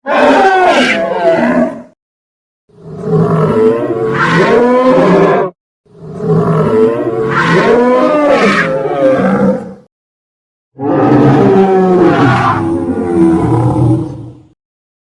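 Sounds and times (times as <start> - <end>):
dinosaur roar: 0.0 - 1.9, 2.8 - 9.9, 10.8 - 14.5.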